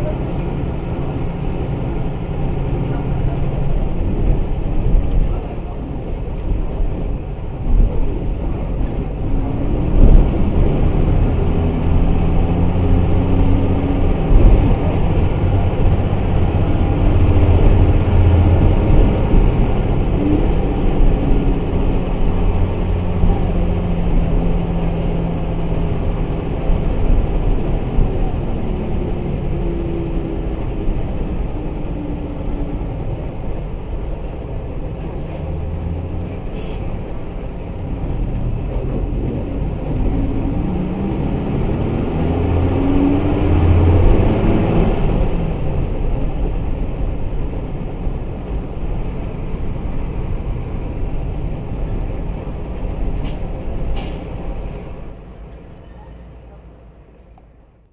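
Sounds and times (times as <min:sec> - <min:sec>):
bus diesel engine running: 0:00.0 - 0:57.9.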